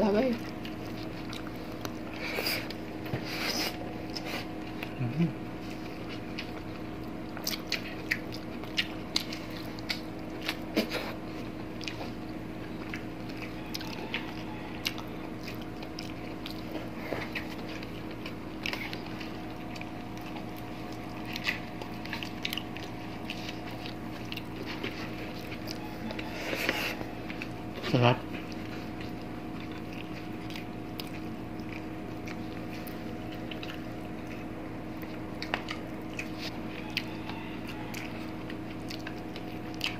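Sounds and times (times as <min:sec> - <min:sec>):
steady low hum: 0:00.0 - 0:39.9
chewing and lip-smacking: 0:00.1 - 0:39.9.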